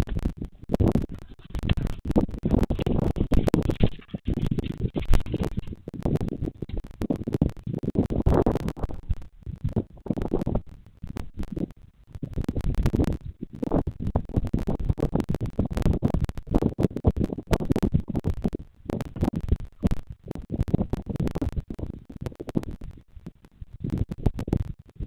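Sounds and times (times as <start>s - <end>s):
crackling and scratching: 0.0s - 25.0s.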